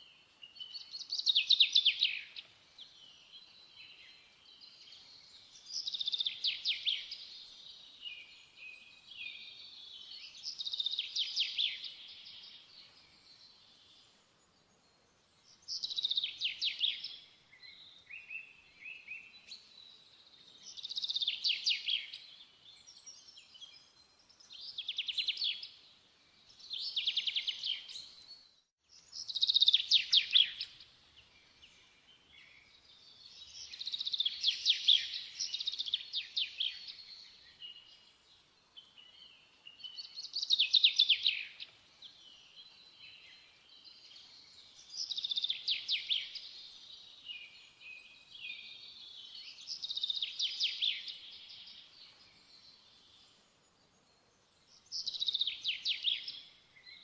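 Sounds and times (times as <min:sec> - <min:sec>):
songbird singing trilled phrases: 0:00.4 - 0:13.7, 0:15.5 - 0:25.8, 0:26.4 - 0:53.2, 0:54.6 - 0:57.0.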